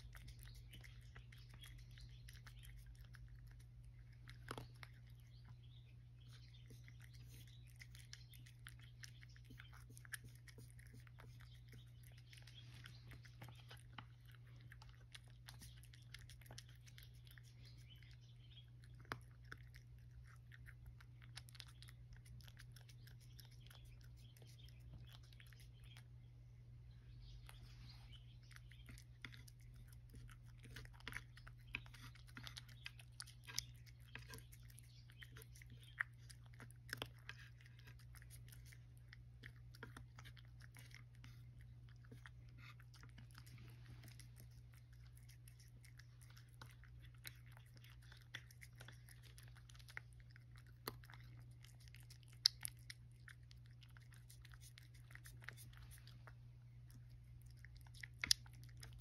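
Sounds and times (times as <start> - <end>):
cat crunching dry kibble: 0.0 - 26.2, 27.5 - 59.0.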